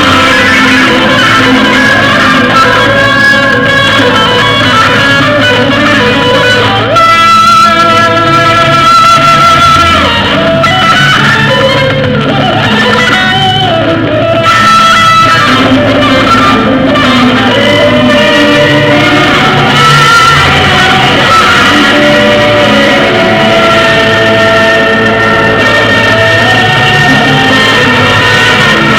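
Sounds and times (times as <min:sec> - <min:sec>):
electric guitar held notes: 0:00.0 - 0:28.9
rock band playing: 0:00.0 - 0:28.9.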